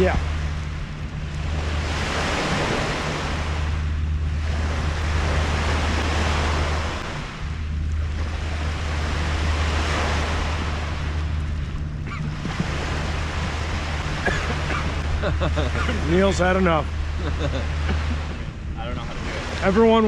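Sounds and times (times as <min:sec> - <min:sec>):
steady low hum: 0:00.0 - 0:20.0
waves washing onto sandy beach: 0:00.0 - 0:20.0
wind on microphone: 0:00.0 - 0:20.0.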